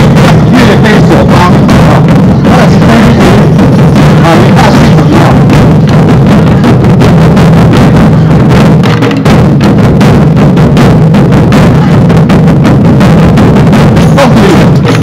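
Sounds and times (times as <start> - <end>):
taiko drums beating: 0.0 - 15.0.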